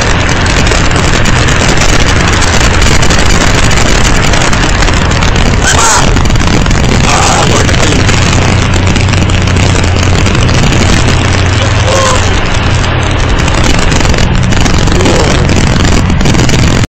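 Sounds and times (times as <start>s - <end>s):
engine hum: 0.0s - 16.9s
tyres rumbling on stone road: 0.0s - 16.9s.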